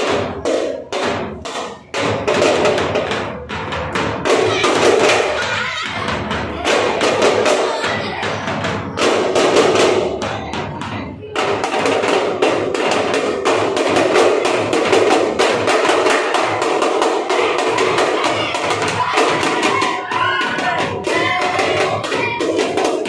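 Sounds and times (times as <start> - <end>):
frame drums beaten with sticks: 0.0 - 23.0.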